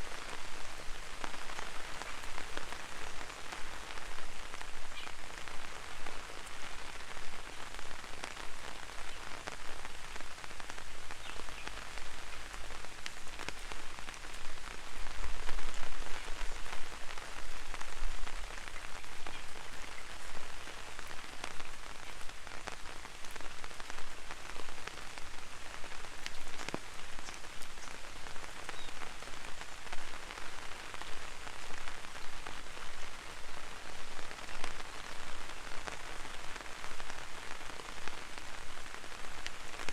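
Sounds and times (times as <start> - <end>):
light rain on an umbrella: 0.0 - 39.9.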